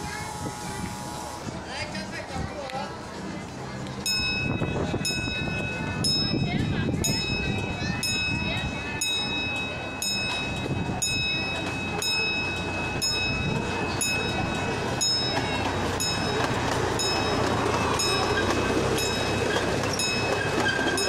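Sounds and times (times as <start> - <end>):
miniature train rolling past: 0.0 - 21.0
bell ringing: 4.0 - 21.0.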